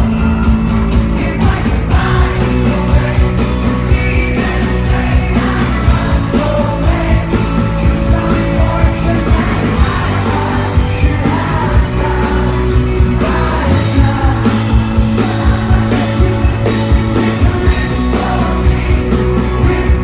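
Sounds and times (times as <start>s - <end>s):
drums beat: 0.0s - 20.0s
live rock band playing: 0.0s - 20.0s
singer singing: 0.0s - 20.0s.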